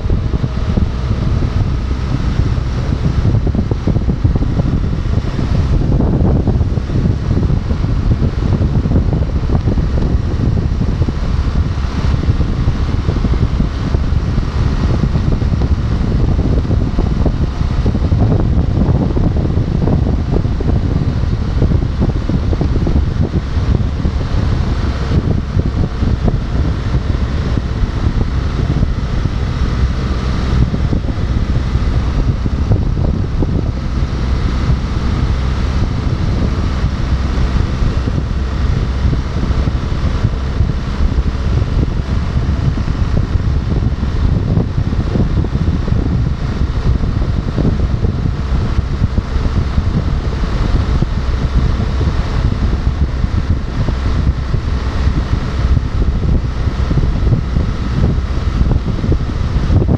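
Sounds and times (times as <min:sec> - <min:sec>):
motorcycle engine: 0:00.0 - 0:59.9
road noise: 0:00.0 - 0:59.9
wind rush over microphone: 0:00.0 - 0:59.9.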